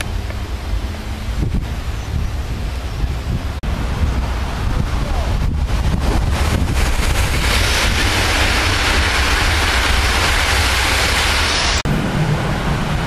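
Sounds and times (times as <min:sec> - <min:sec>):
train passing at speed: 0:00.0 - 0:13.0
wind buffeting microphone: 0:00.0 - 0:13.0.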